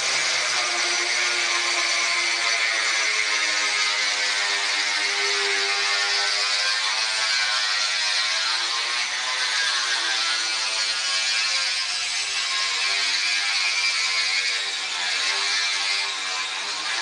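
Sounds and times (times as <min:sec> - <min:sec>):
power drill cutting granite: 0:00.0 - 0:17.0.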